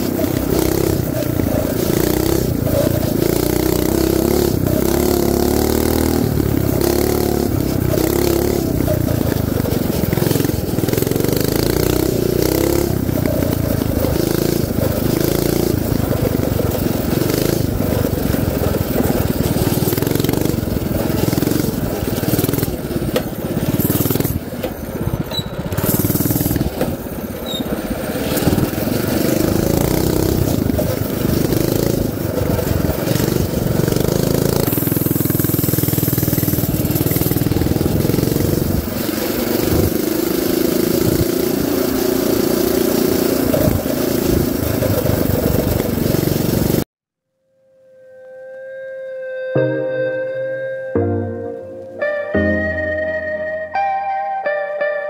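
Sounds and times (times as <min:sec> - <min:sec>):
small motorbike engine running: 0:00.0 - 0:46.9.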